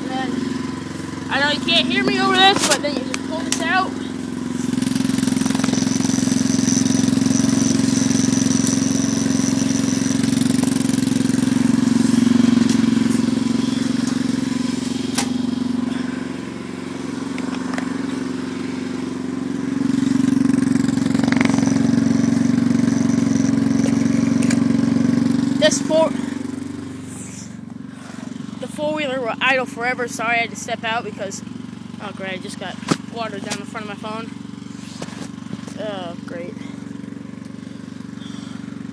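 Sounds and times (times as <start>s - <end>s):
atv engine idling: 0.0s - 38.9s.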